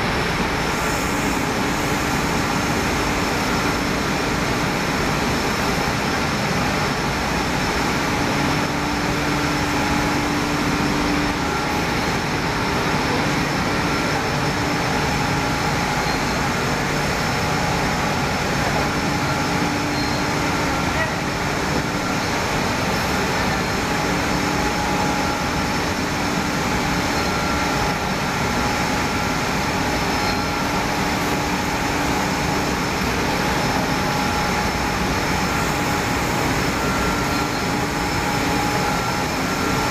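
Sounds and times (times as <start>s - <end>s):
industrial machines running: 0.0s - 39.9s.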